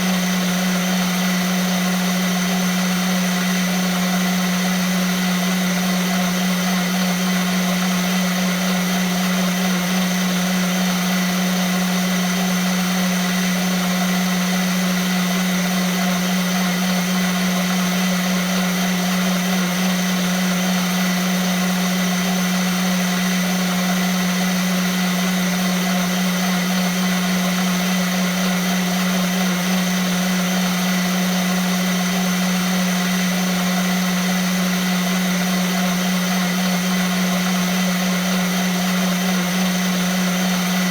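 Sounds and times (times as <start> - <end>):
blender motor running: 0.0 - 40.9.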